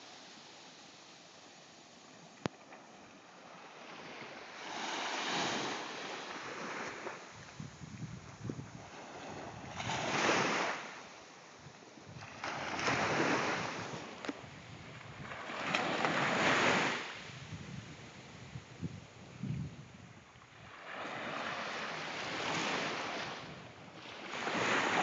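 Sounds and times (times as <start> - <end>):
small waves breaking on shore: 0.0 - 25.0.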